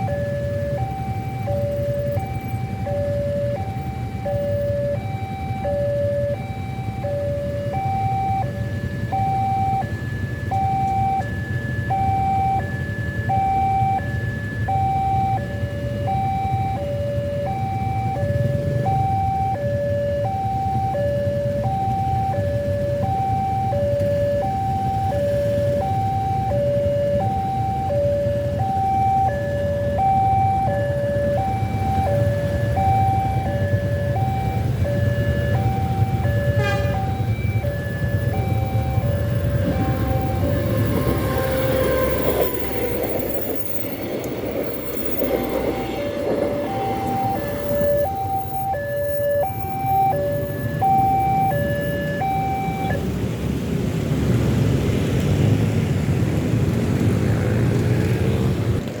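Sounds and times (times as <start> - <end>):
level-crossing two-tone alarm: 0.0 - 53.0.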